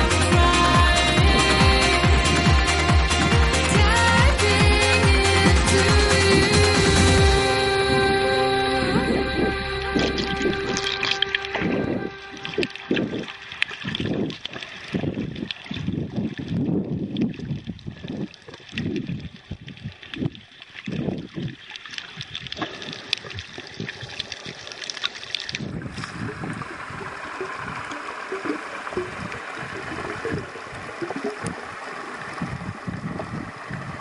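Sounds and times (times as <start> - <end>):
muffled underwater water sloshing: 0.0 - 34.0.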